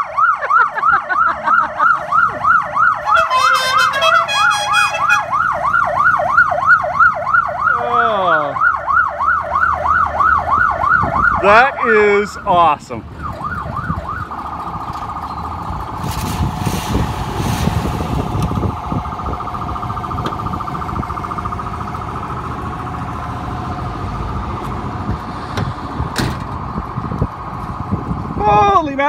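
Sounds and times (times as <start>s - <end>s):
electronic siren wailing: 0.0s - 24.6s.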